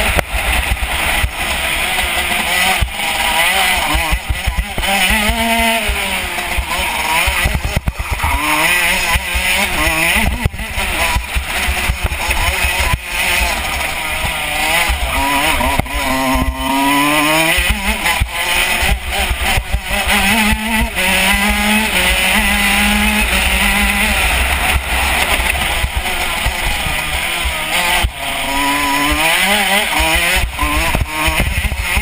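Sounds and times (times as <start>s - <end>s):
kart engine racing: 0.0s - 32.0s.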